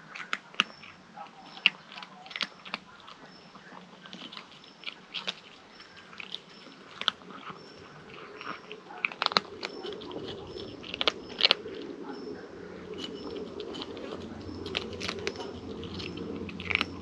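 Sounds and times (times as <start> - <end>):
kitten chewing food: 0.0 - 17.0.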